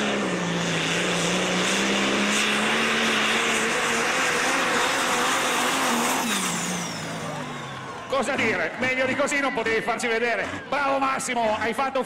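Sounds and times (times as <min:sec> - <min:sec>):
tractor engine at full throttle: 0:00.0 - 0:12.0.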